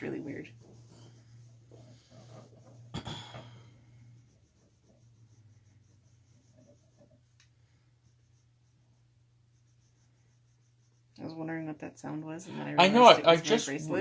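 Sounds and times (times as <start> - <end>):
pencil scratching on paper: 0.0 - 11.8
low steady hum: 0.0 - 14.0.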